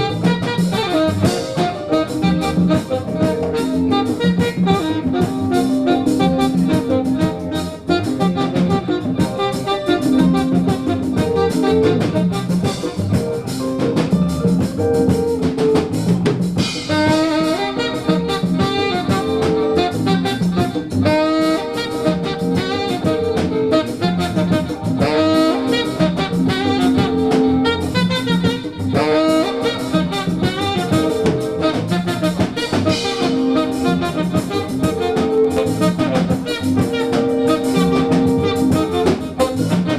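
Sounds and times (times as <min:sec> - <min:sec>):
drum kit and percussion: 0:00.0 - 0:39.9
jazz horns playing melody: 0:00.0 - 0:39.9.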